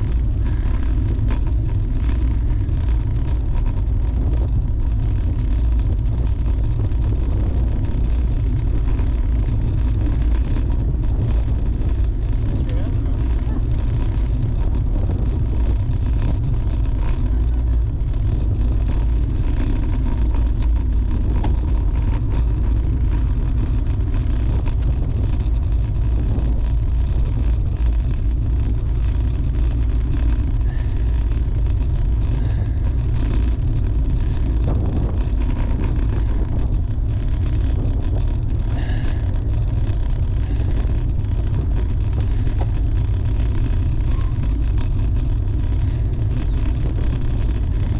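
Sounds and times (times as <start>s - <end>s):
road noise: 0.0s - 47.9s
wind buffeting microphone: 0.0s - 47.9s.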